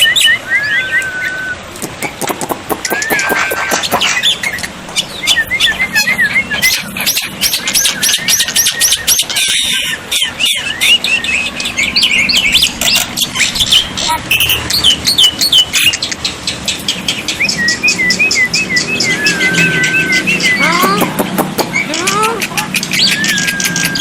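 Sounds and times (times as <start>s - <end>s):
myna chattering and whistling: 0.0s - 24.0s.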